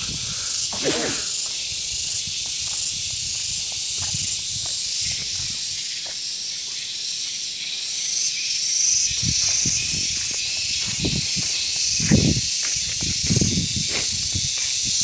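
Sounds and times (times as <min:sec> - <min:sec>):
cicada chorus: 0:00.0 - 0:15.0.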